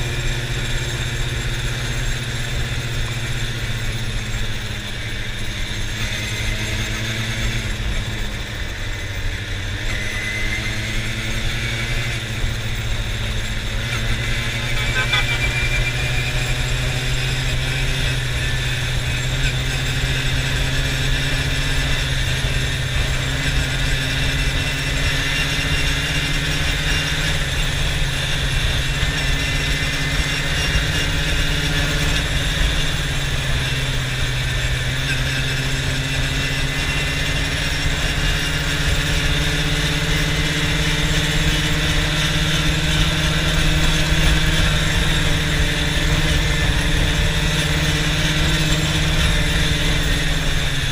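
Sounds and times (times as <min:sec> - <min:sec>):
quad bike engine running: 0:00.0 - 0:50.9.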